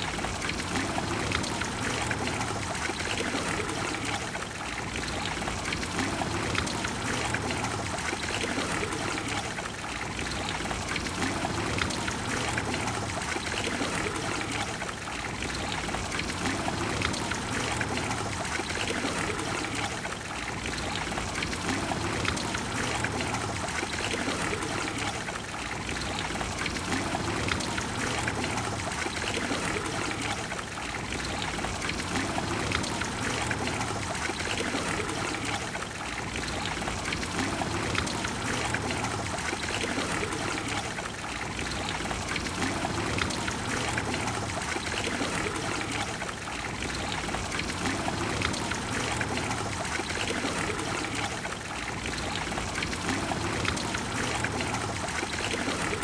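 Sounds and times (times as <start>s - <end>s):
fountain water splashing into basin: 0.0s - 56.0s.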